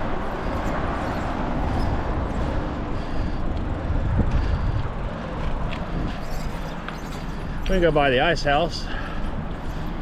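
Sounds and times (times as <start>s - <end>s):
bicycle tyres humming on road: 0.0s - 10.0s
wind rumbling on microphone: 0.0s - 10.0s.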